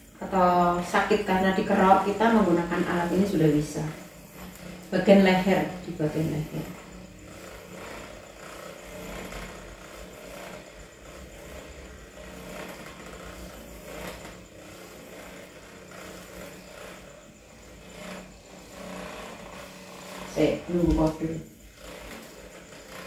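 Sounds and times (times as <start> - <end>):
massage gun motor buzz: 0.0 - 23.0.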